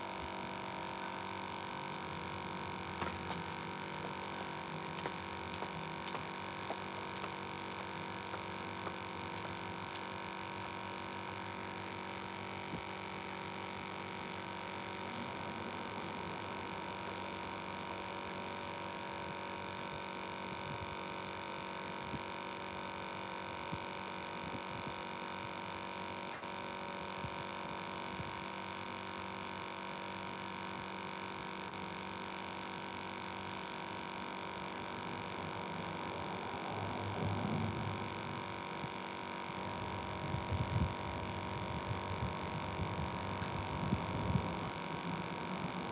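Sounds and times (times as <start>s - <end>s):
steady hum of fixed tones: 0.0s - 45.9s.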